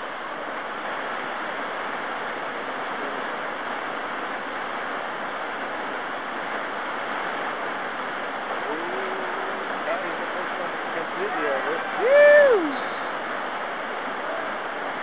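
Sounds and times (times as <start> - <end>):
whitewater rushing over waterfall: 0.0 - 15.0.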